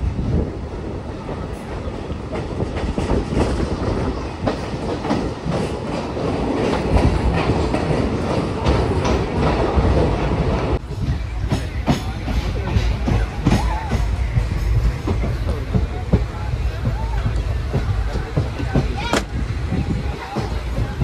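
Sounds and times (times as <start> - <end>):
train wheels and air rushing: 0.0 - 21.0.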